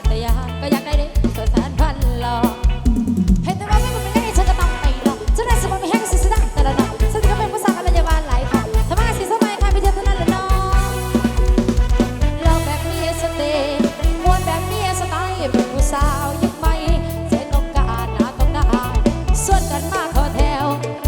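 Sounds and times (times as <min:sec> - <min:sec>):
band music through loudspeakers: 0:00.0 - 0:21.0.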